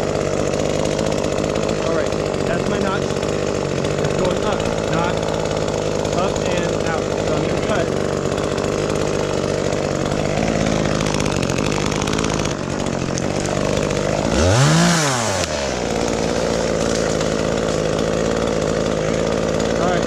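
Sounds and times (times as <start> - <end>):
chainsaw engine running: 0.0 - 20.0.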